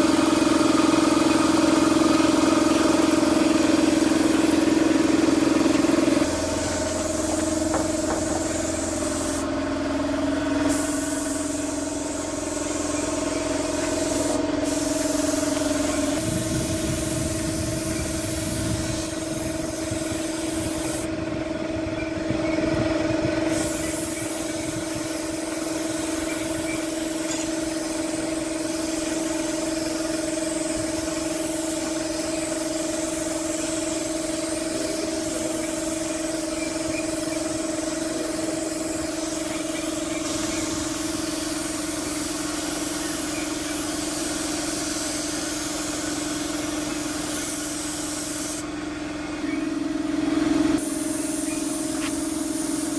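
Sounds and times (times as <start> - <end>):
paint spray gun hissing: 0.0 - 21.2, 23.4 - 48.8, 50.7 - 52.9
compressor motor hum: 0.0 - 52.9.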